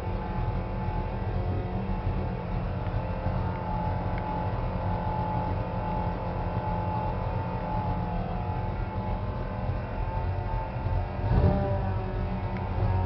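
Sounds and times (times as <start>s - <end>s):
engine rumbling from inside cab: 0.0s - 13.0s
thin steady whine: 0.0s - 13.0s.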